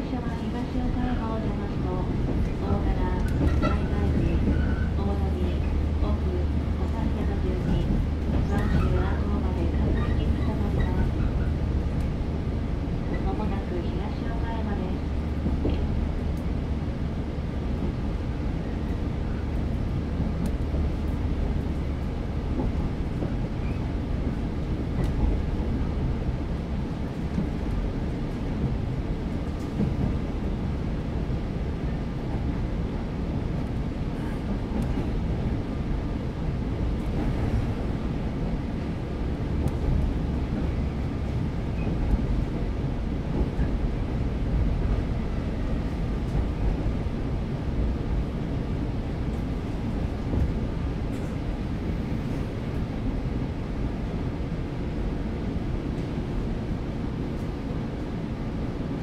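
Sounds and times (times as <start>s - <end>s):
train wheels on rails: 0.2s - 59.0s.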